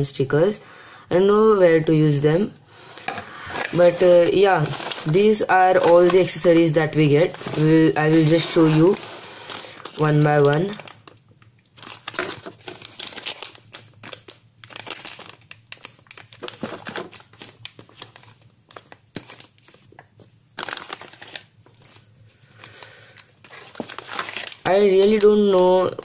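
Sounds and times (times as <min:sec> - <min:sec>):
plastic bags crinkling: 0:03.0 - 0:26.0.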